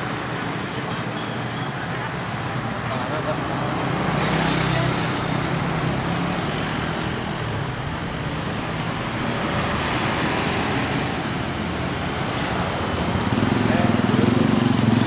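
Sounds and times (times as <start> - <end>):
road traffic: 0.0 - 15.0
bus driving past: 2.7 - 15.0.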